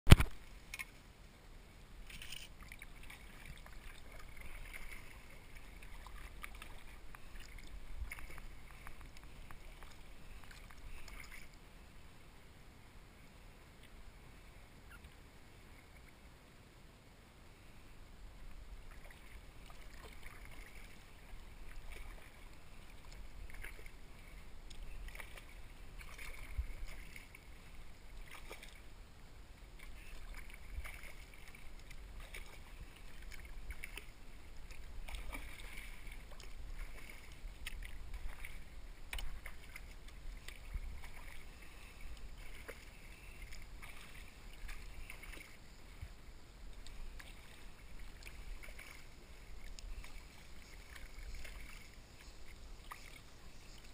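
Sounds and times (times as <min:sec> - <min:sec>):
water drips and splashes: 0:02.0 - 0:11.6, 0:18.8 - 0:28.9, 0:29.8 - 0:53.9
paddle dipping through water: 0:02.0 - 0:12.4, 0:17.5 - 0:53.9.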